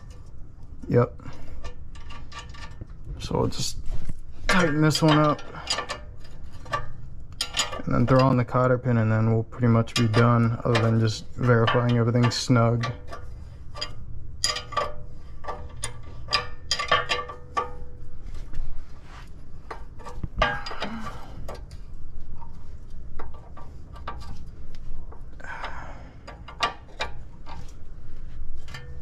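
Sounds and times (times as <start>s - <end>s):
hands and tools rustling: 0.0s - 29.0s.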